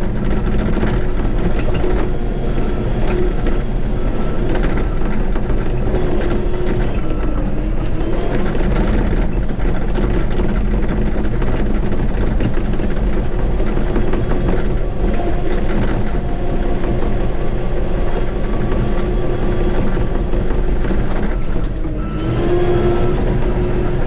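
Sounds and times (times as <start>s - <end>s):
bulldozer diesel engine humming: 0.0s - 24.0s.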